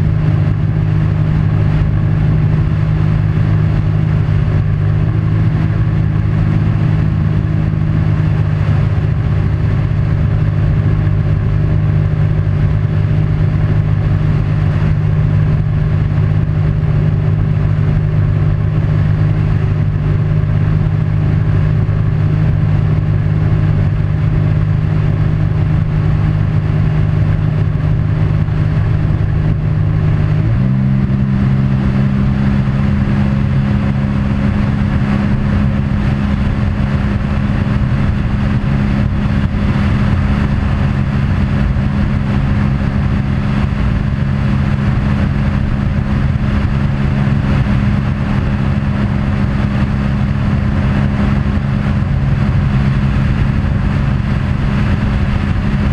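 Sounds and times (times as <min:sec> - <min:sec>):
engine running and revving up: 0:00.0 - 0:55.9.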